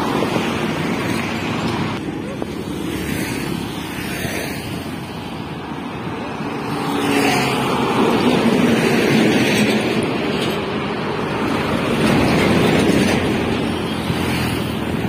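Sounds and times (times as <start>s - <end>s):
heavy trucks passing: 0.0s - 15.0s.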